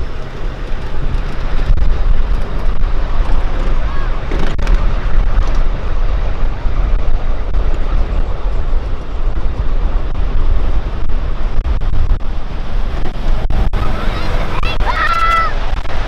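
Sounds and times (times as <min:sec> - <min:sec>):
miniature train rumbling on track: 0:00.0 - 0:16.0
wind buffeting microphone: 0:00.0 - 0:16.0.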